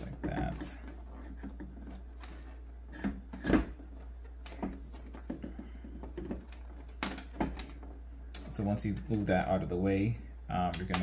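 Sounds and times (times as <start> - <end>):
hard plastic knocking and clicking: 0.0 - 9.2.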